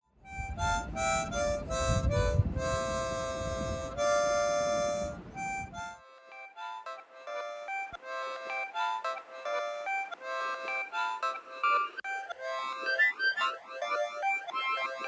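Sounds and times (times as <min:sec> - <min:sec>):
harmonica notes and chords: 0:00.1 - 0:15.0.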